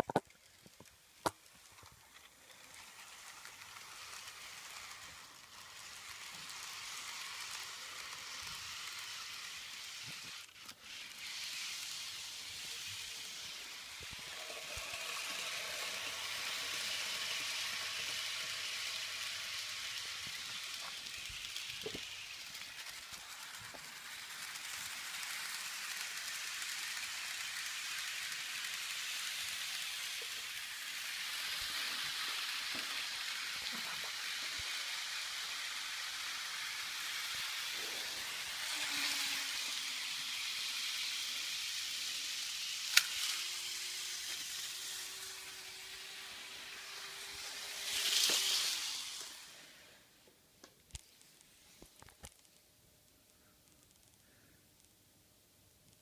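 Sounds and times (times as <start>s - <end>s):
model train running on track: 0.0s - 51.1s.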